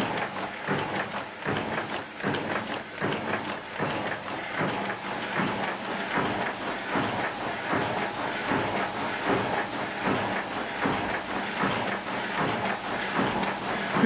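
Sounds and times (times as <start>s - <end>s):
printing press humming and clattering: 0.0s - 14.0s.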